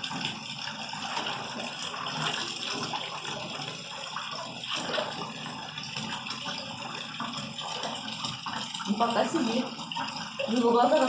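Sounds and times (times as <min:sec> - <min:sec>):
small water splashes: 0:00.0 - 0:11.0
water running in bathtub: 0:00.0 - 0:11.0.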